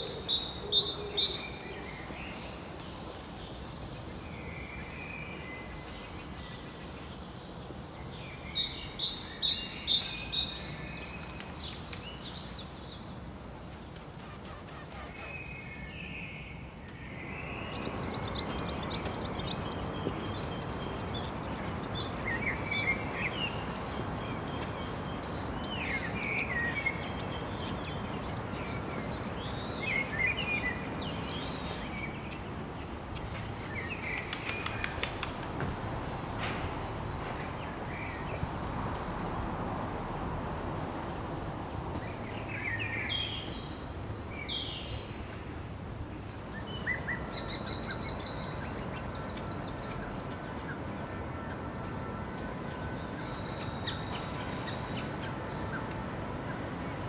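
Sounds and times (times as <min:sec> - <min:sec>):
small birds chirping: 0:00.0 - 0:57.0
steady background noise: 0:00.0 - 0:57.0.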